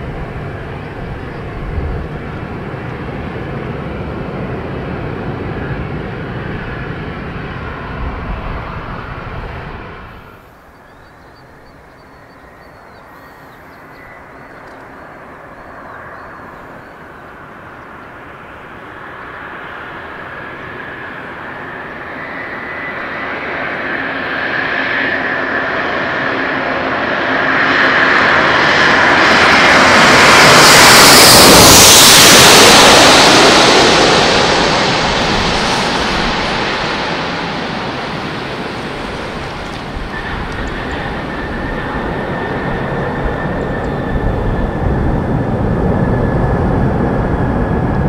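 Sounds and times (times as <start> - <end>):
jet airliner passing overhead: 0.0 - 48.0.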